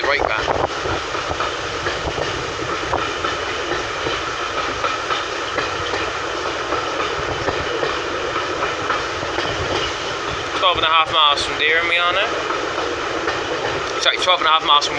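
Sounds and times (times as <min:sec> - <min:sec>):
train wheels rumbling on rail: 0:00.0 - 0:14.9.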